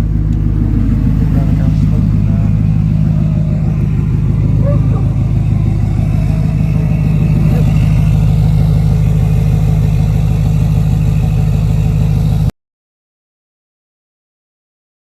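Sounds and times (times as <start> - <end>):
diesel engine idling: 0.0 - 12.5.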